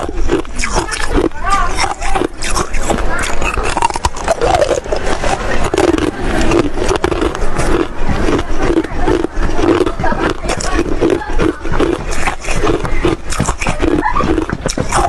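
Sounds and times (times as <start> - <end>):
crunching and chewing frost: 0.0 - 15.0.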